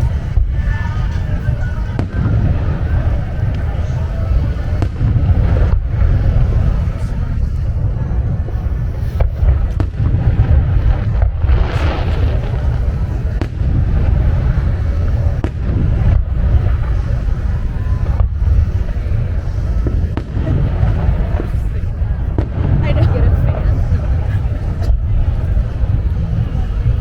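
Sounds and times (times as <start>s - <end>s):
crackling hissing firework shower: 0.0s - 27.0s
low rumble of booms: 0.0s - 27.0s.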